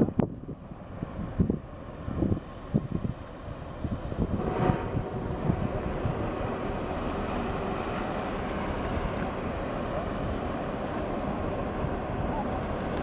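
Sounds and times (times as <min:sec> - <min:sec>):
ferry engines and hull drone: 0:00.0 - 0:13.0
wind on microphone: 0:00.0 - 0:13.0.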